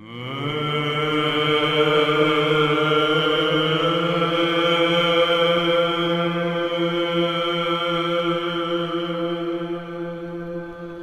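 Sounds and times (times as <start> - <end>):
male choir chanting: 0.0 - 11.0
sustained vocal drone: 0.0 - 11.0.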